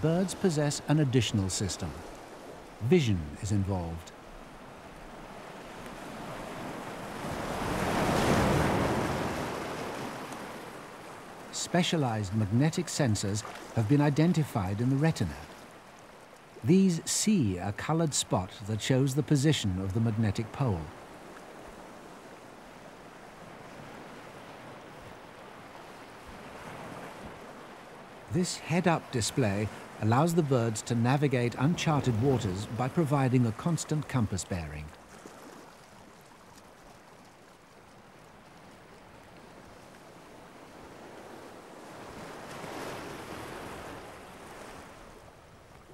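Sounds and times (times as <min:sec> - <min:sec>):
rushing sea surf: 0:00.0 - 0:35.6, 0:39.6 - 0:45.2
wind: 0:00.0 - 0:45.9.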